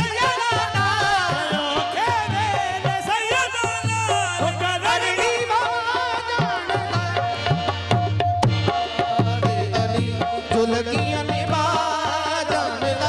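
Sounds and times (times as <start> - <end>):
tabla drumming: 0.0 - 13.0.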